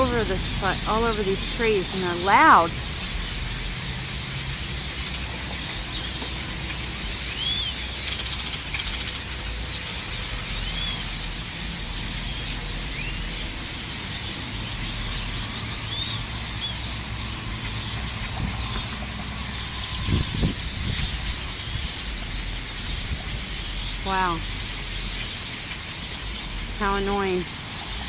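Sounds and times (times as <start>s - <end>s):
flock of birds squawking: 0.0s - 28.0s
low steady rumble: 0.0s - 28.0s.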